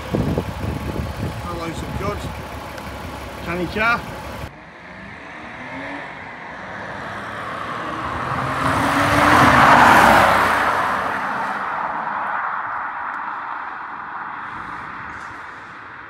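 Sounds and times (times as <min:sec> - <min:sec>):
car engine and tyres passing: 0:00.0 - 0:16.0.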